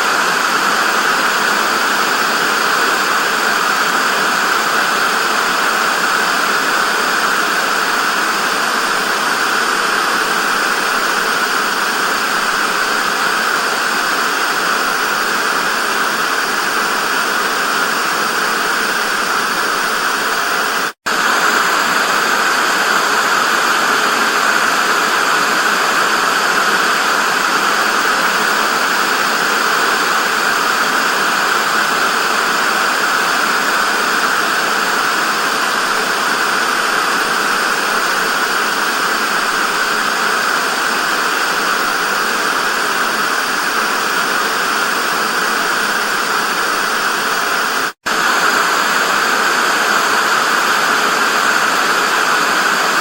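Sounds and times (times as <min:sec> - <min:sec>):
television static hiss: 0:00.0 - 0:53.0.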